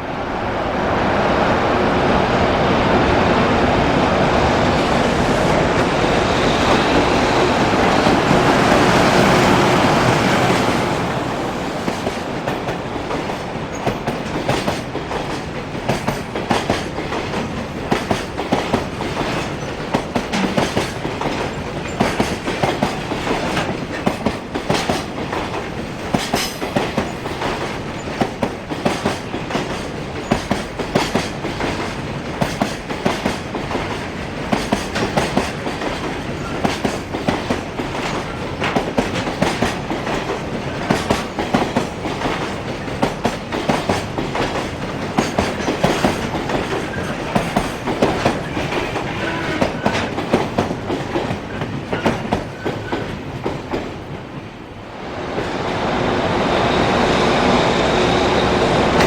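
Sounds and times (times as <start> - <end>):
freight train wheels clattering: 4.4 - 54.6.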